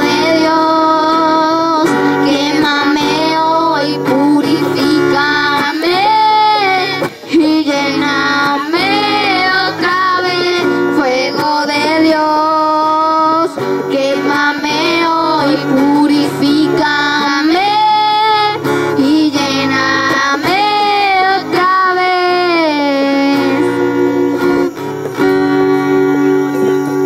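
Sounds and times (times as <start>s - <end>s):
children and woman singing: 0.0s - 24.0s
guitar accompaniment: 0.0s - 27.0s.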